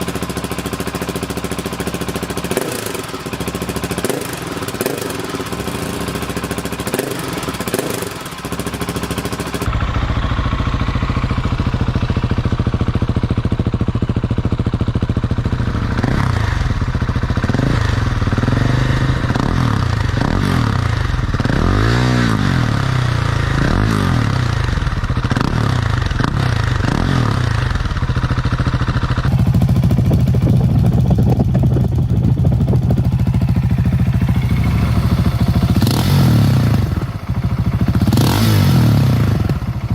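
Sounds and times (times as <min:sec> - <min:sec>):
motorcycle engine running loudly: 0:00.0 - 0:39.9.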